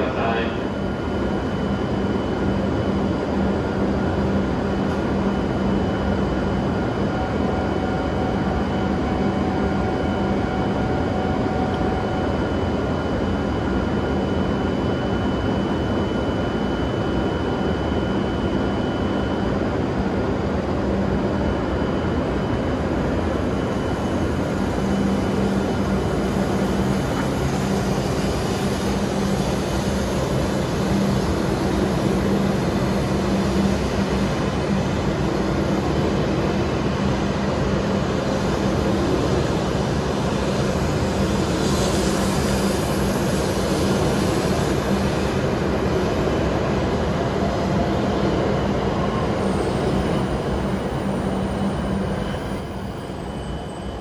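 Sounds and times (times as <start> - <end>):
train equipment whirring hum: 0.0 - 54.0.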